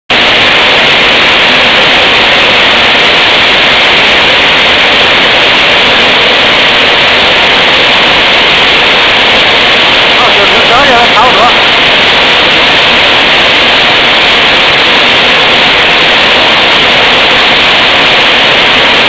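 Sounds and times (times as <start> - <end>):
milling machinery running: 0.1 - 19.0.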